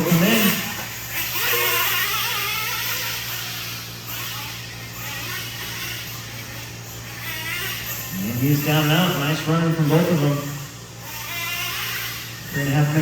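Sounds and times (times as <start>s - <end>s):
small fuel engines whining: 0.0s - 13.0s.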